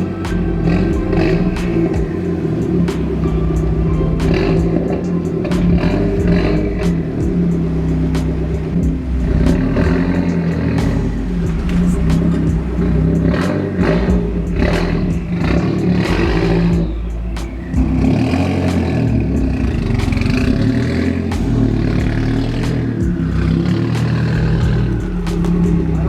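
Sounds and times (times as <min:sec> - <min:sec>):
loud car exhaust revving: 0:00.0 - 0:26.0.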